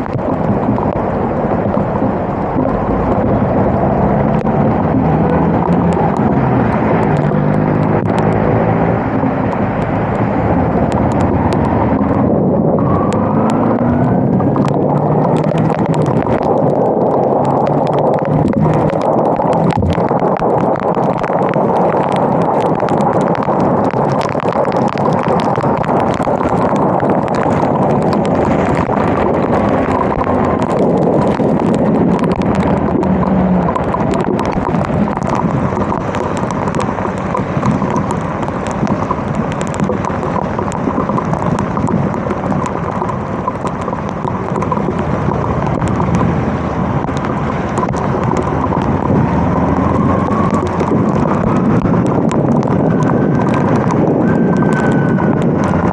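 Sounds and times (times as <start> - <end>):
raindrops ticking on microphone: 0.0 - 55.9
wind rush on microphone: 0.0 - 55.9.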